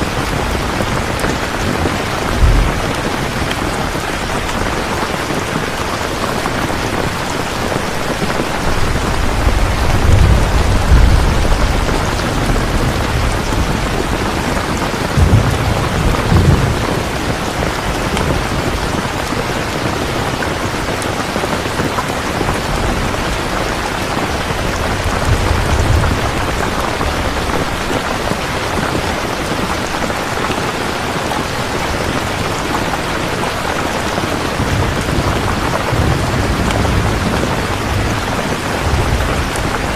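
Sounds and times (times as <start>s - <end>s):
thunder rumbling: 0.0s - 30.2s, 31.4s - 39.9s
heavy rain falling: 0.0s - 39.9s.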